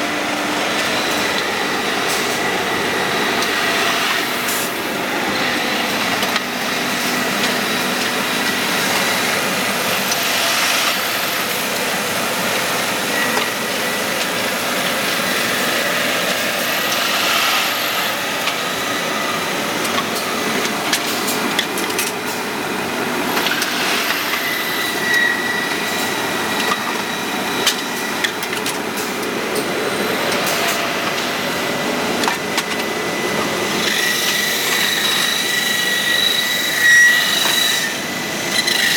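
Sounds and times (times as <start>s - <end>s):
machinery high whine: 0.0s - 38.9s.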